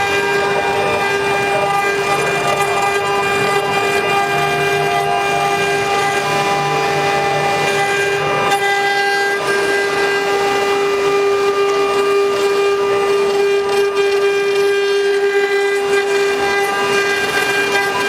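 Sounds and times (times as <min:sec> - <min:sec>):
bit carving wood: 0:00.0 - 0:18.0
router spindle high whine: 0:00.0 - 0:18.0.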